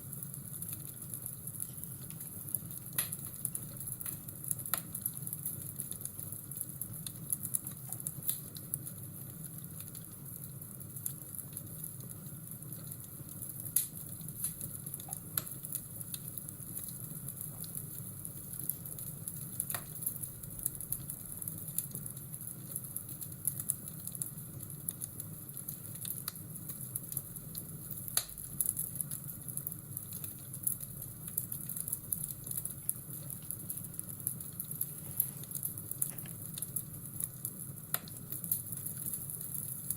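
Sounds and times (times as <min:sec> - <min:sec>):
fireplace crackling: 0:00.0 - 0:39.9.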